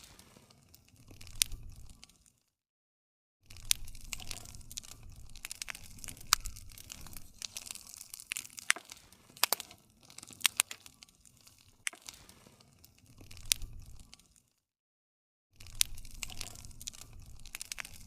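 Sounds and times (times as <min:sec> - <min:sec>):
wood fire crackling: 0:00.0 - 0:02.5, 0:03.4 - 0:14.6, 0:15.6 - 0:18.0.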